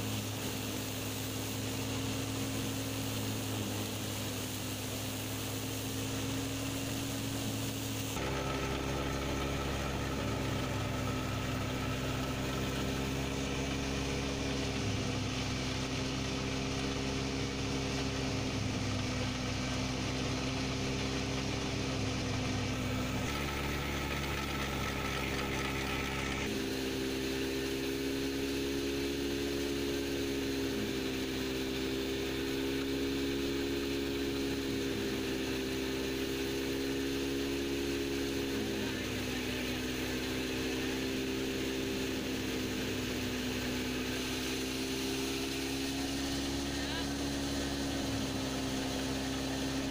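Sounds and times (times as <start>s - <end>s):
threshing machine humming: 0.0s - 49.9s.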